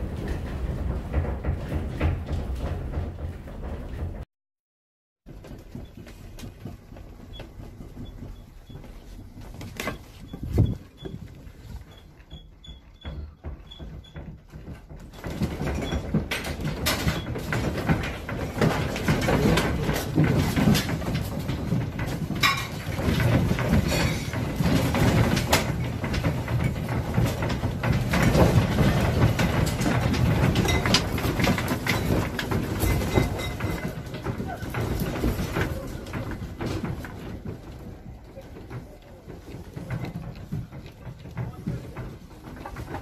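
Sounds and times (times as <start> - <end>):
rapid rattling and knocking: 0.0 - 4.3, 5.2 - 43.0.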